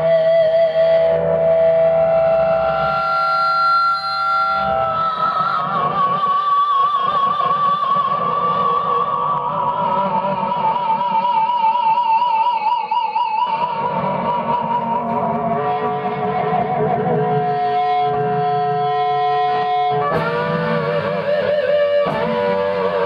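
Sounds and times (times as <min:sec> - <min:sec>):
electric guitar notes with vibrato: 0:00.0 - 0:23.0.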